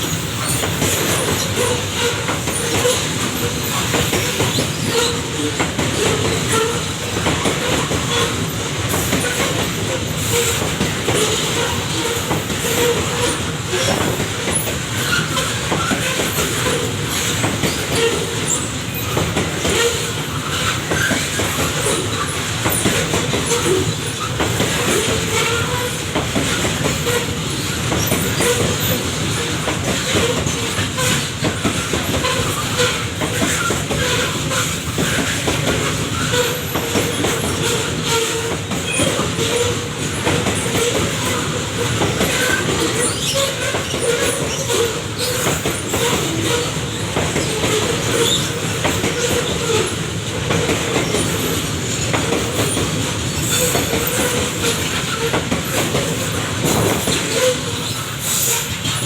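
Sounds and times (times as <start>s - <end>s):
wheel squeal: 0.1s - 6.9s, 9.1s - 39.9s, 40.6s - 50.0s, 52.6s - 59.0s.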